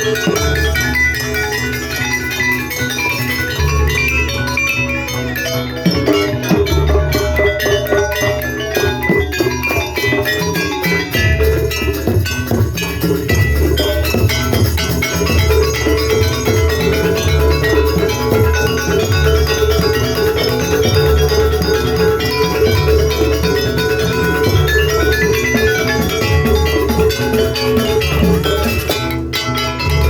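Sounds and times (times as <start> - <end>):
drums: 0.0 - 30.0
metal mallet percussion: 0.0 - 30.0.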